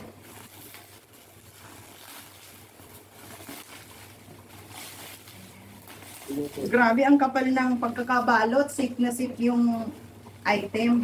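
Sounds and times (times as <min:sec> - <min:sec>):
plastic packaging crinkling: 0:00.0 - 0:10.8
low steady hum: 0:00.0 - 0:11.0.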